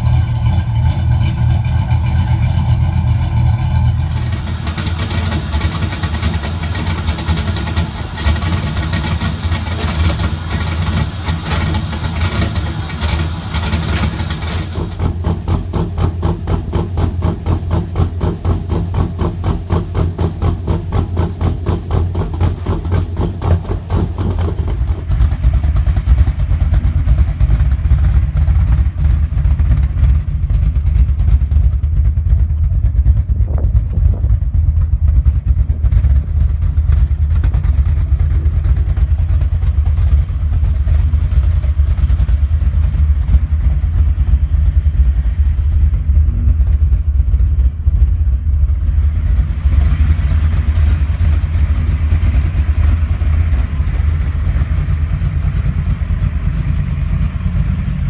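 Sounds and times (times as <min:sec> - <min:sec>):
truck engine loping idle: 0:00.0 - 0:58.0.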